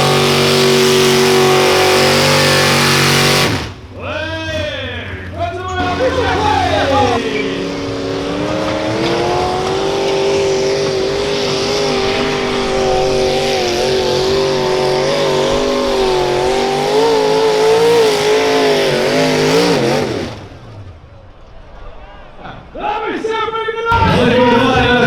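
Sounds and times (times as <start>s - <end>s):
tractor engine at high revs: 0.0s - 21.5s.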